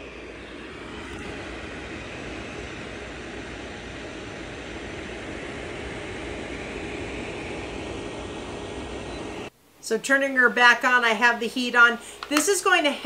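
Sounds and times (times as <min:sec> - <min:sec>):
heater fan blowing air: 0:00.0 - 0:13.0.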